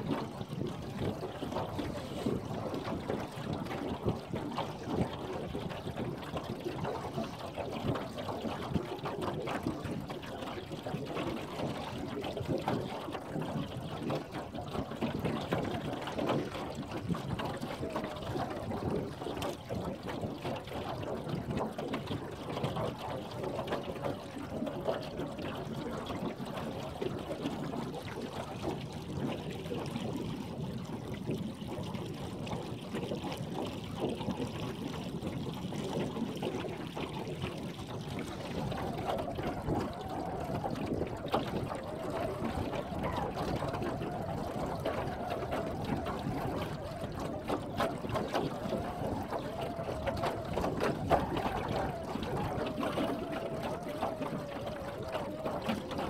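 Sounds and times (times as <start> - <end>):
waves lapping against boat hull: 0.0 - 56.0.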